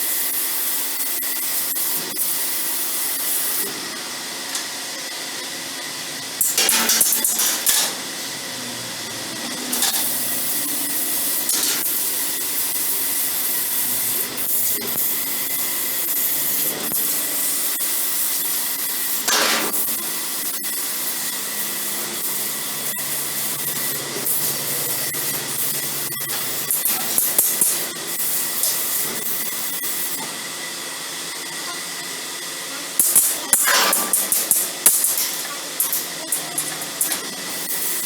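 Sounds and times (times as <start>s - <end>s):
laser cutter hiss and whine: 0.0s - 38.0s.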